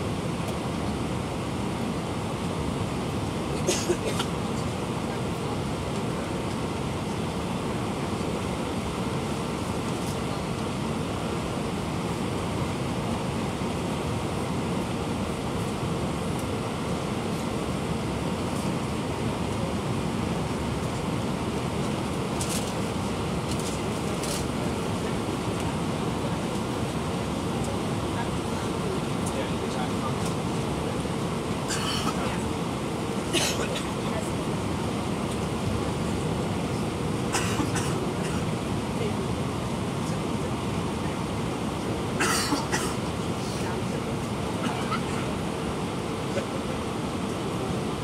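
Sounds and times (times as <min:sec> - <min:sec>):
airliner cabin roar: 0:00.0 - 0:48.0.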